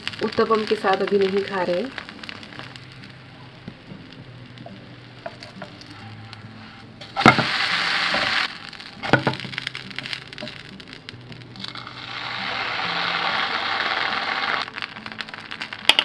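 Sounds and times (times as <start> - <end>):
loud sizzle: 0.0 - 16.0
pancake frying with faint crackle: 0.0 - 16.0.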